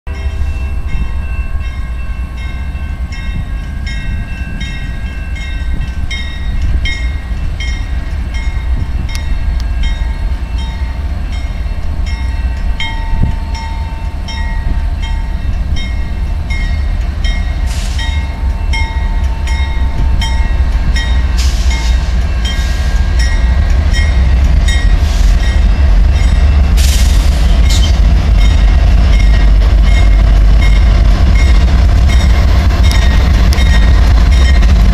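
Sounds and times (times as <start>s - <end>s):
diesel locomotive engines rumbling: 0.1s - 34.9s.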